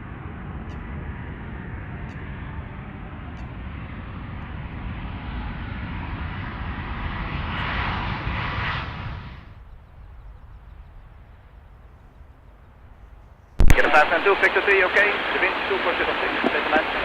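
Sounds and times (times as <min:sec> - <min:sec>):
jet airliner roar on approach: 0:00.0 - 0:17.0.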